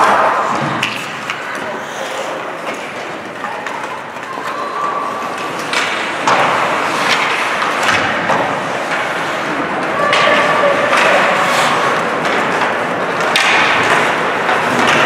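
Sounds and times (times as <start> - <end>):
hockey sticks and puck clacking: 0.0 - 15.0
skate blades scraping ice: 0.0 - 15.0
spectators' voices: 0.0 - 15.0.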